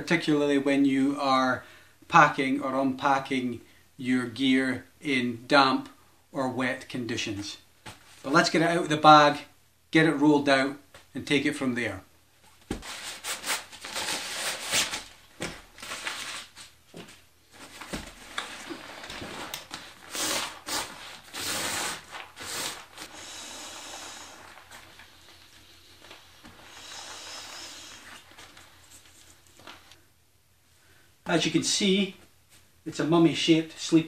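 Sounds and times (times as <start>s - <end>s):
soft steady hiss: 0.0s - 34.0s.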